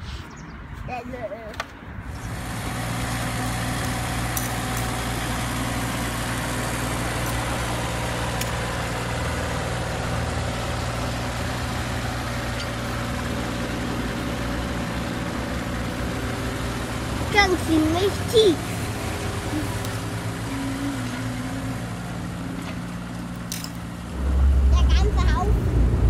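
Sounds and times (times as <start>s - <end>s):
engine idling hum: 2.0s - 26.0s.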